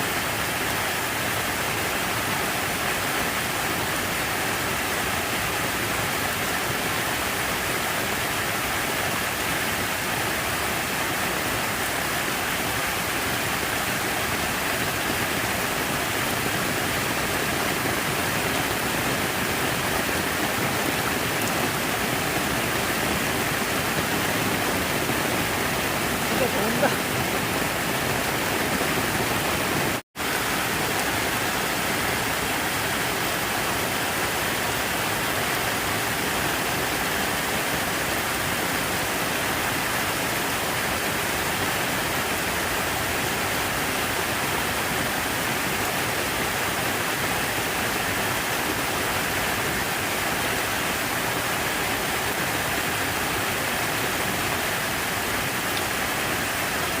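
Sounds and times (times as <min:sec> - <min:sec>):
water falling and splashing: 0:00.0 - 0:57.0.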